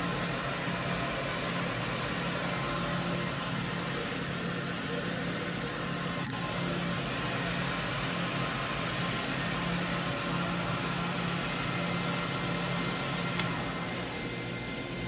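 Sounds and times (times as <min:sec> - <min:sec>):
machining center humming: 0:00.0 - 0:15.0.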